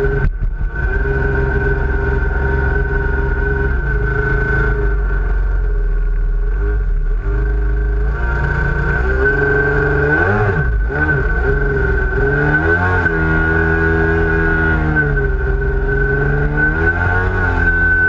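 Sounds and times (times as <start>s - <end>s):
high whine: 0.0s - 18.0s
two-stroke engine at high revs: 0.0s - 18.0s.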